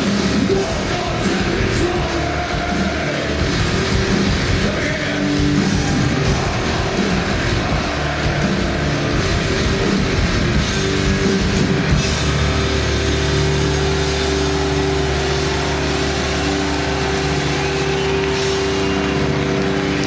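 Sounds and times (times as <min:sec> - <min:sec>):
heavy metal band playing live: 0:00.0 - 0:20.0.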